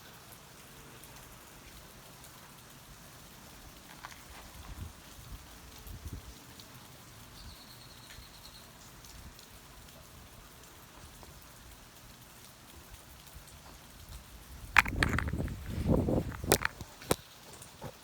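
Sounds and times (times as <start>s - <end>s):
faint steady rain: 0.0s - 18.0s.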